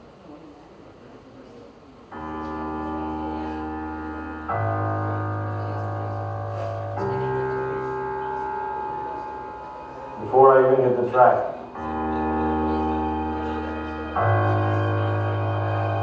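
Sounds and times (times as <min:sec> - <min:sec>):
sustained keyboard chords: 0:02.1 - 0:16.0.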